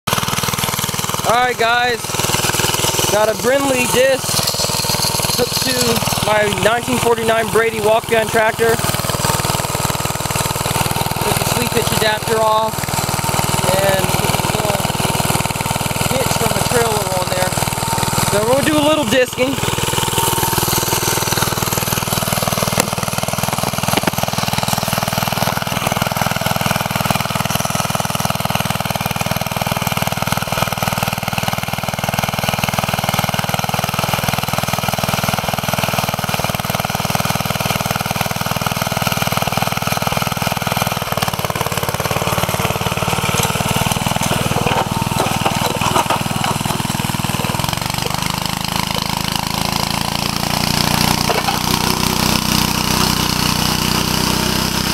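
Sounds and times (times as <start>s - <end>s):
tractor engine running under load: 0.1s - 54.9s.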